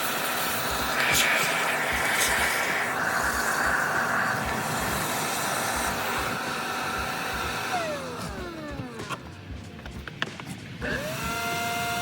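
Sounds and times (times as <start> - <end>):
power tool motor running: 0.0 - 10.0, 10.8 - 12.0.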